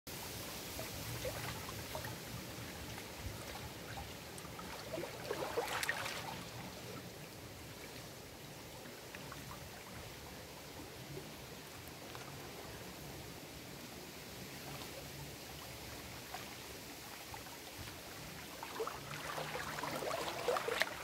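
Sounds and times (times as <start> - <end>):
waves lapping against rocks: 0.3 - 21.0.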